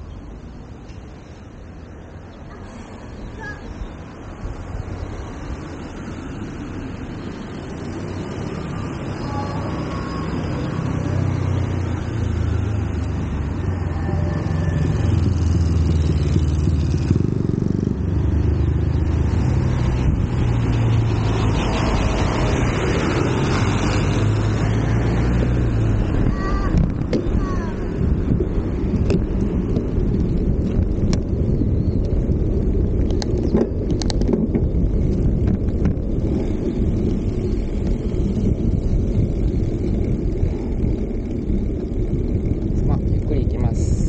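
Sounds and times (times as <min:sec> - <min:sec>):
low drone: 0:00.0 - 0:44.0
wind rushing over microphone: 0:00.0 - 0:44.0.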